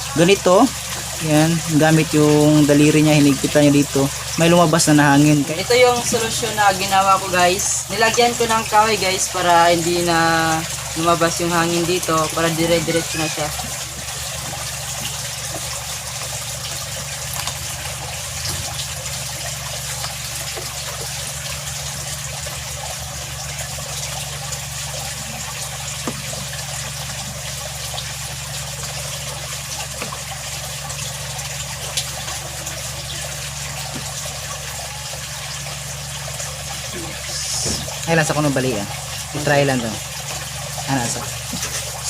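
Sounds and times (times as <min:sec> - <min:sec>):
aquarium water trickling: 0:00.0 - 0:42.0
low steady hum: 0:00.0 - 0:42.0.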